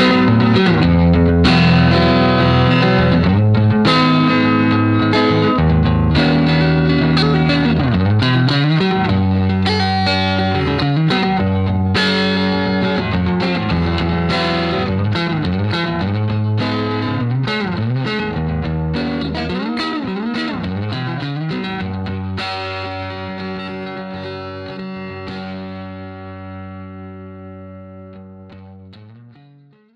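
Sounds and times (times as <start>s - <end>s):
electric guitar with effects: 0.0s - 29.9s.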